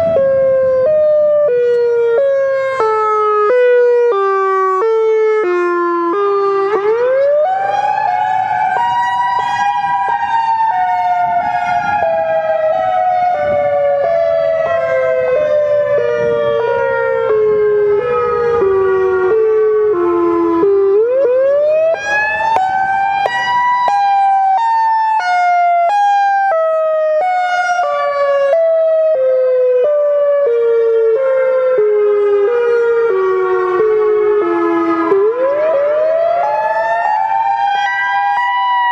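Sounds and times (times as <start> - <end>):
siren wailing: 0.0 - 38.9.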